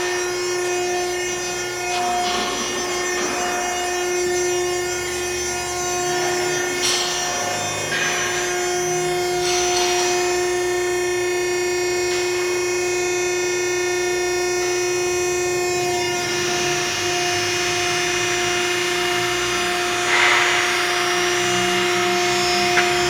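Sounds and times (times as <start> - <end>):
machinery whine and hum: 0.0 - 23.0.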